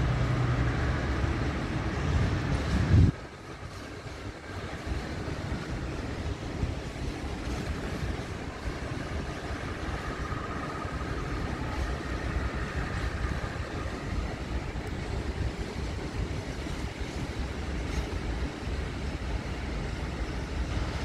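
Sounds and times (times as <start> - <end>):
distant train rumble: 0.0 - 21.0
faint train whine: 0.0 - 21.0.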